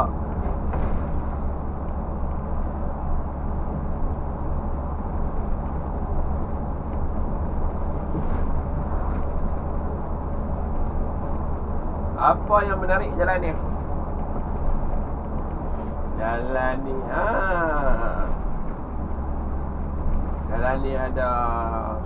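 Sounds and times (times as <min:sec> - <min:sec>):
bus engine drone: 0:00.0 - 0:22.0
road and tyre noise: 0:00.0 - 0:22.0.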